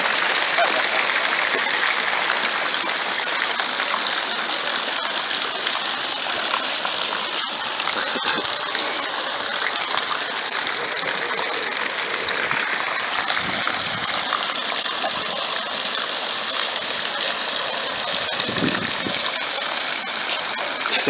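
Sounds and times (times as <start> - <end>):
fountain water splashing into pool: 0.0 - 21.0.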